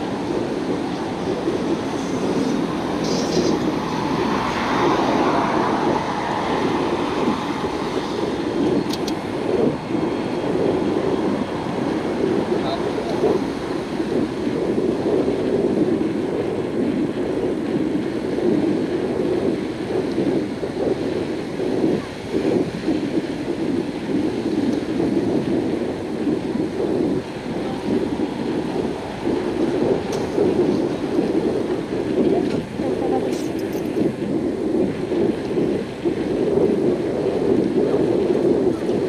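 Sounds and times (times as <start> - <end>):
road and tyre noise: 0.0 - 39.0
wind buffeting microphone: 0.0 - 39.0.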